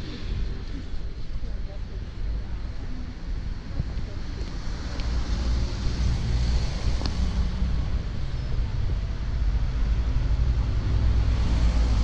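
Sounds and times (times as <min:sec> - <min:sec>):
street noise rumble: 0:00.0 - 0:12.0.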